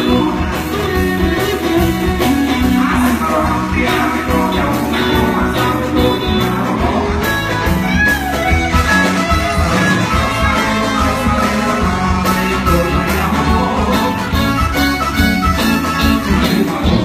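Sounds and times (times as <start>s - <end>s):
amplified guitars: 0.0s - 17.0s
drum kit beat: 0.0s - 17.0s.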